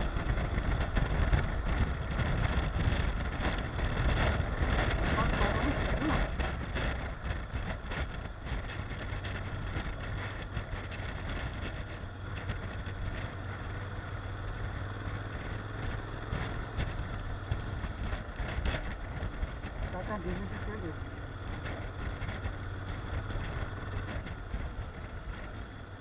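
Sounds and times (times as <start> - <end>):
motorcycle engine cruising: 0.0 - 26.0
wind on microphone: 0.0 - 26.0.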